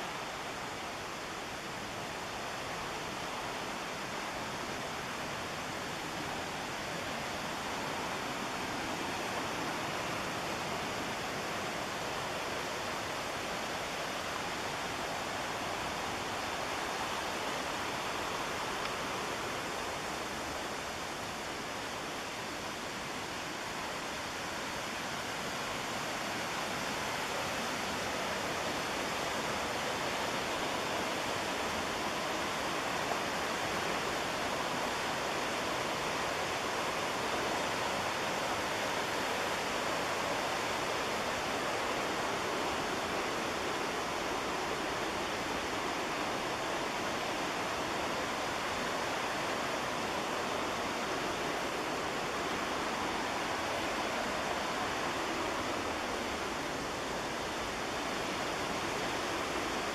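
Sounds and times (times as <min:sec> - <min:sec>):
fast-flowing whitewater rushing: 0:00.0 - 0:59.9.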